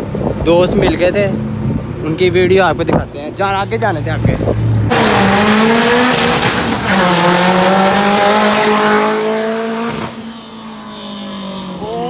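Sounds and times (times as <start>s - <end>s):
car with loud exhaust revving: 0.0s - 12.0s.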